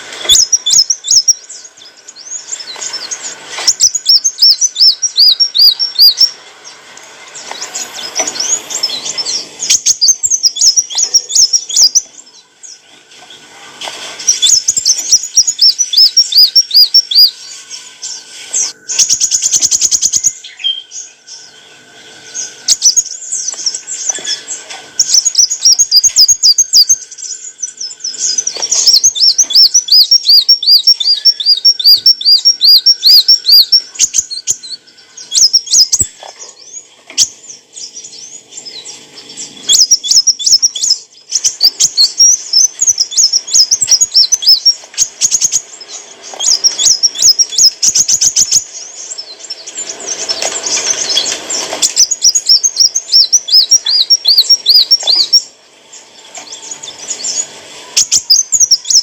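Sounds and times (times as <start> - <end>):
bird singing high fast chirps: 0.0 - 12.8, 14.2 - 59.0.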